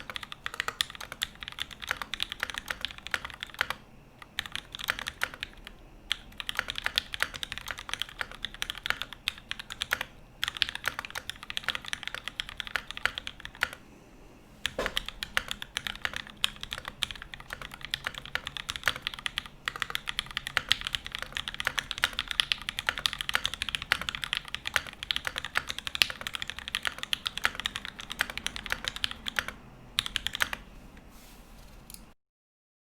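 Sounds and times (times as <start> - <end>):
mechanical keyboard typing: 0.0 - 13.8, 14.6 - 30.6.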